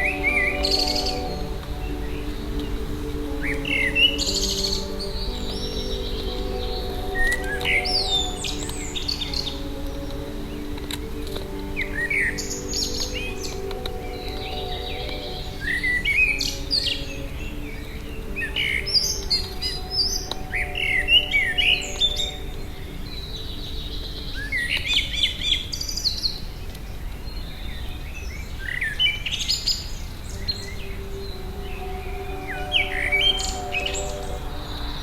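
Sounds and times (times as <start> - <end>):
low held tones: 0.0 - 25.4, 30.3 - 35.0.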